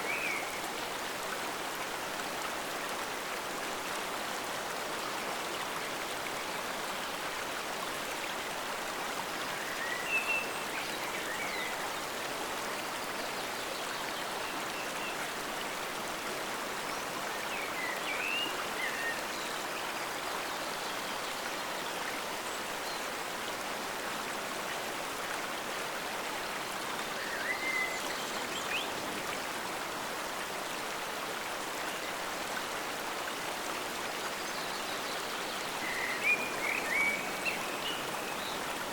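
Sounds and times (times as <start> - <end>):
forest stream flowing: 0.0 - 38.9.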